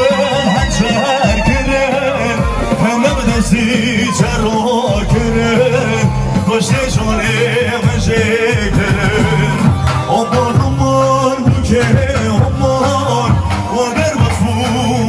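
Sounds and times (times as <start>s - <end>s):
dance music from a band: 0.0s - 15.0s
person singing: 0.0s - 15.0s.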